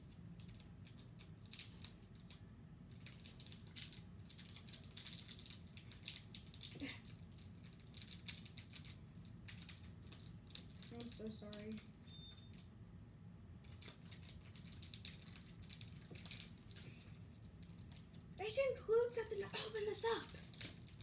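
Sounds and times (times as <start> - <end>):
card pack wrapping crinkling: 0.4 - 12.1, 13.6 - 18.3, 19.2 - 21.0.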